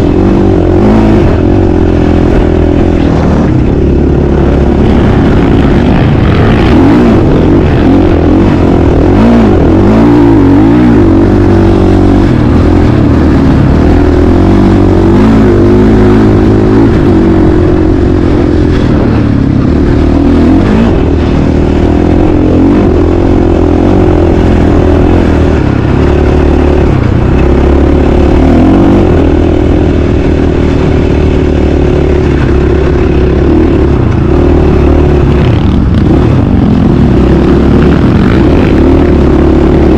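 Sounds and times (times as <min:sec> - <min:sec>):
dirt bike engine running hard: 0:00.0 - 0:39.9.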